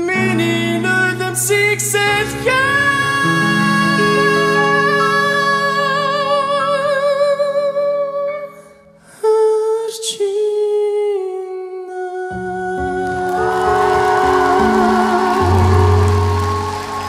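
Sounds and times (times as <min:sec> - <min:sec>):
keyboard accompaniment: 0:00.0 - 0:09.2, 0:12.2 - 0:17.0
man singing a slow ballad: 0:00.0 - 0:16.2.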